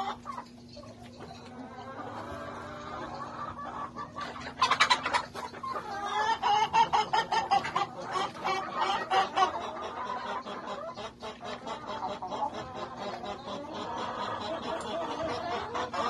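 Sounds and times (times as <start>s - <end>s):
hens clucking and squawking: 0.0s - 16.0s.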